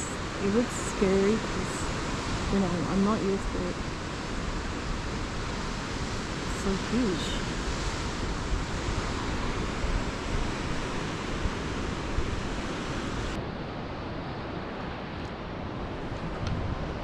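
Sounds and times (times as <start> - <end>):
wind gusting over microphone: 0.0 - 17.0.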